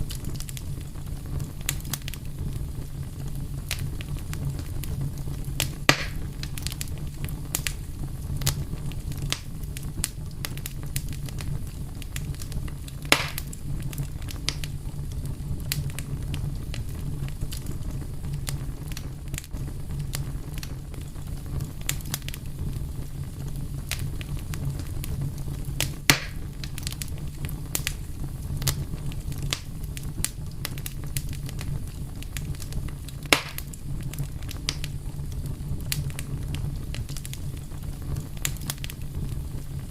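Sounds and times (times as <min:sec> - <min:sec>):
fire crackling: 0:00.0 - 0:39.9
loud fire pops: 0:00.0 - 0:39.9.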